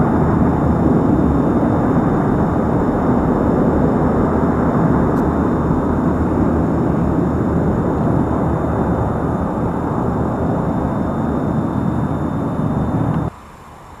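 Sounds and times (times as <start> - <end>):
turboprop aircraft humming: 0.0 - 14.0.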